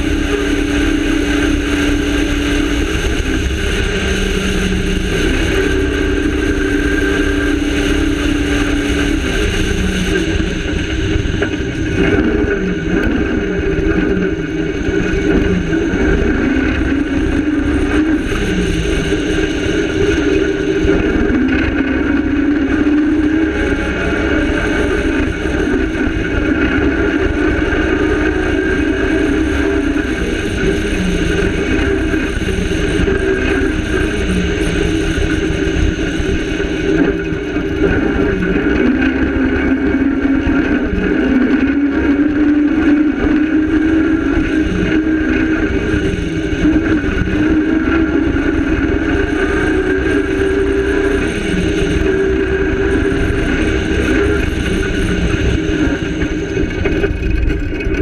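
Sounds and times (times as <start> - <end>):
car rumbling over rough dirt: 0.0 - 58.0
rally car engine revving: 0.0 - 58.0.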